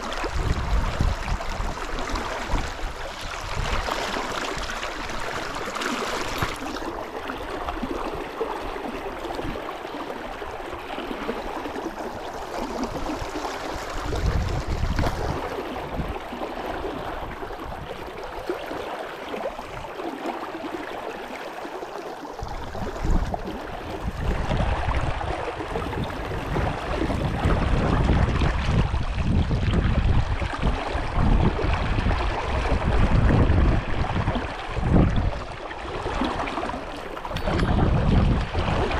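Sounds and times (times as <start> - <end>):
wind rumble on microphone: 0.0 - 20.7, 22.3 - 38.9
brook water flowing: 0.0 - 38.9.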